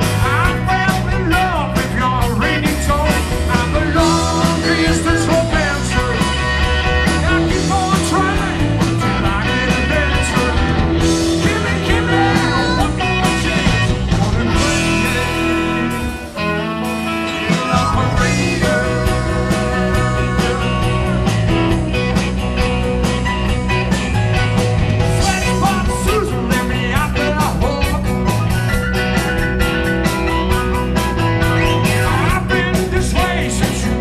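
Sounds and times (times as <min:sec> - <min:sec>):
rock and roll band playing live: 0:00.0 - 0:34.0.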